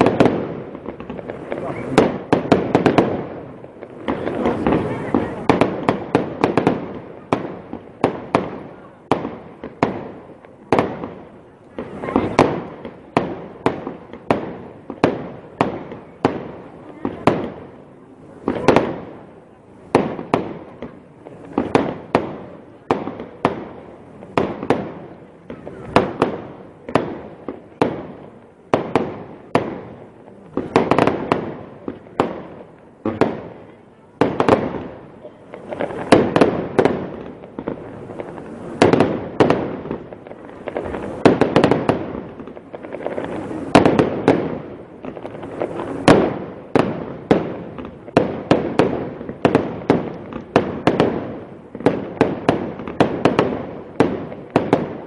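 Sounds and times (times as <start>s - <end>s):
firework crackle: 0.0s - 55.0s.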